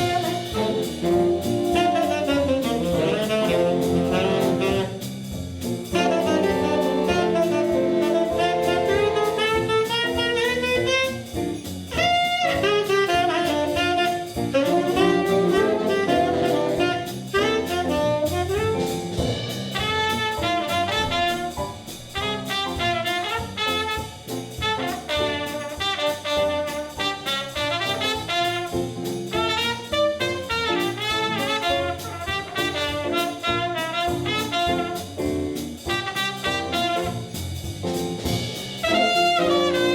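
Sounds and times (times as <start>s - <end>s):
drum kit: 0.0s - 39.9s
jazz band playing: 0.0s - 39.9s
saxophones and brass melody: 0.0s - 39.9s.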